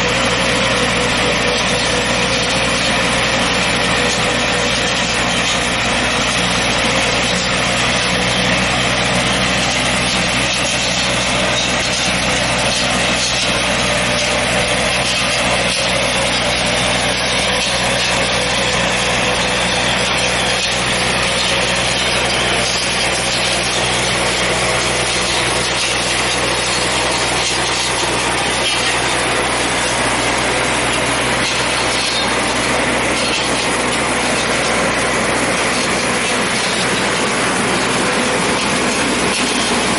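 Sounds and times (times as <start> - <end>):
hedge trimmer cutting branches: 0.0 - 39.9
tractor engine running: 0.0 - 39.9.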